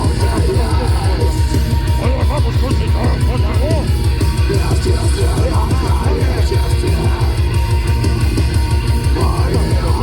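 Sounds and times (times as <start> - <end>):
distorted guitars: 0.0 - 10.0
fast pounding drum beat: 0.0 - 10.0.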